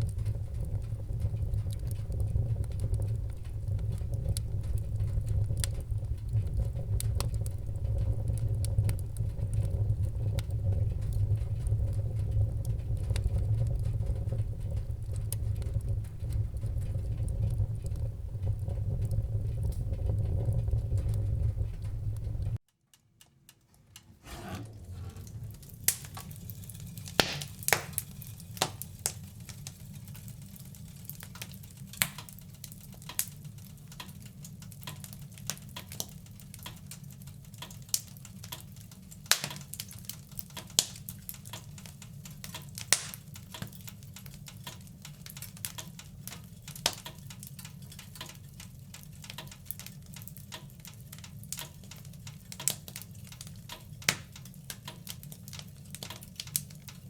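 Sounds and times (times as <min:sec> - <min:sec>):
low rumble of flames: 0:00.0 - 0:22.6, 0:23.9 - 0:57.0
wood fire crackling and popping: 0:00.0 - 0:57.0.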